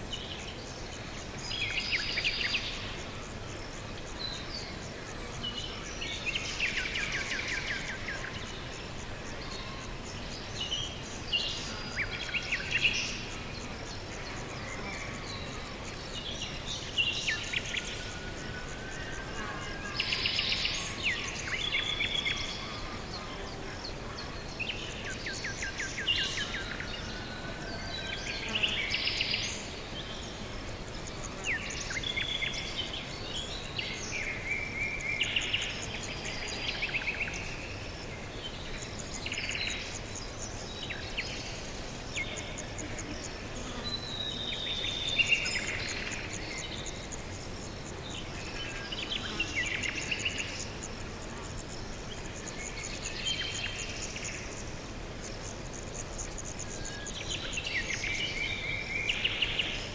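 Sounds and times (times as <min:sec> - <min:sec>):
soft background hiss: 0:00.0 - 0:59.9
songbirds singing and chirping: 0:00.0 - 0:59.9.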